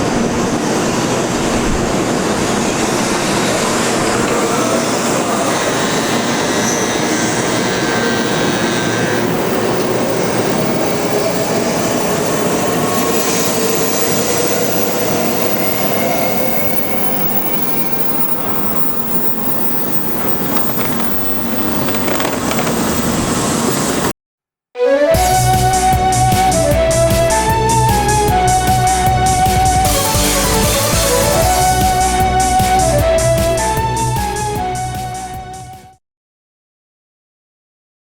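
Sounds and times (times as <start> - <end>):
electric train rolling on rails: 0.0 - 24.1, 25.4 - 35.7
train motor whine rising: 0.0 - 24.1, 25.1 - 35.9.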